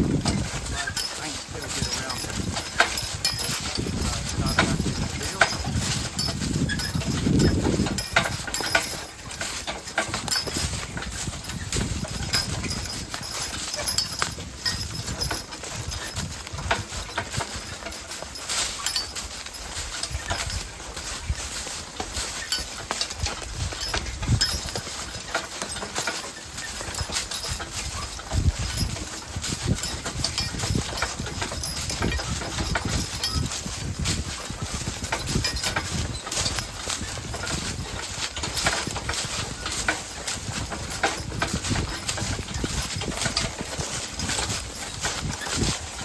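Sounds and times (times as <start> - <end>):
horse hooves clopping: 0.0 - 46.0
sharp clicks and knocks: 0.2 - 46.0.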